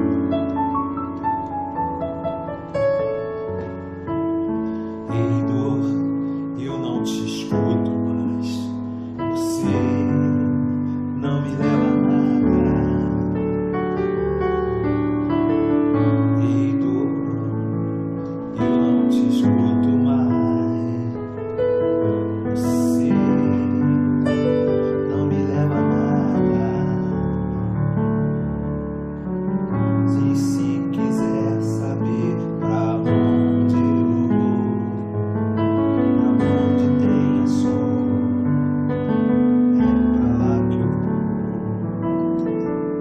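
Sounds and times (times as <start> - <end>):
synthesized piano chords: 0.0 - 43.0.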